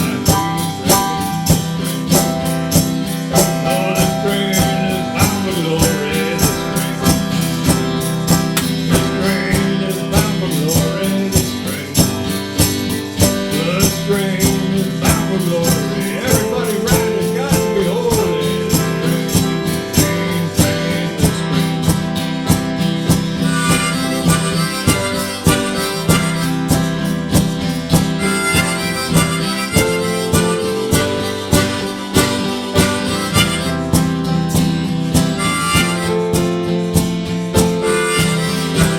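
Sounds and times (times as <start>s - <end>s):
blues harmonica playing: 0.0s - 38.9s
guitar: 0.0s - 38.9s
steady beat: 0.0s - 38.9s.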